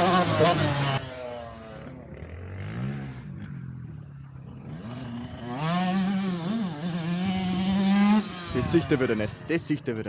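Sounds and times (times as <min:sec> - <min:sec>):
two-stroke motorbike engine revving: 0:00.0 - 0:09.9.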